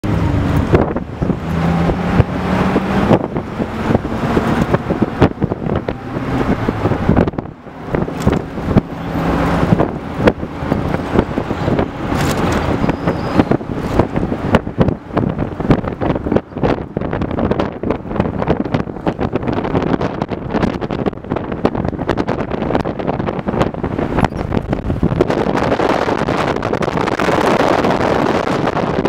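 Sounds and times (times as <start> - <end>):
car engine humming: 0.0 - 29.0
wind buffeting microphone: 0.0 - 29.0.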